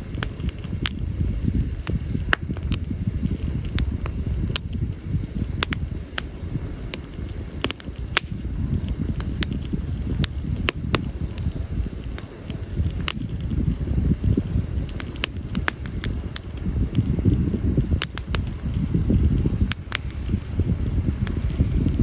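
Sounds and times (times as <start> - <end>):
firewood crackling and popping: 0.0 - 22.0
low fire rumble: 0.0 - 22.0.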